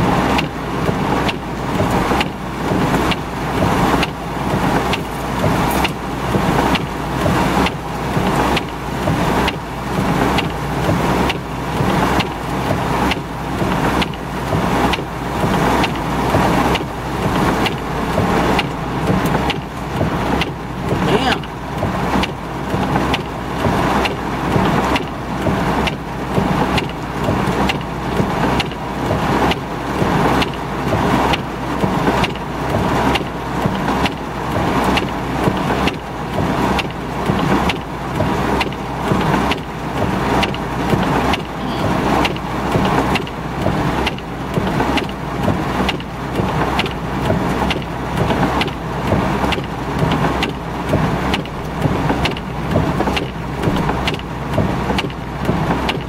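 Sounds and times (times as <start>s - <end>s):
heavy rain on a car: 0.0s - 56.0s
windshield wipers sweeping: 0.0s - 56.0s.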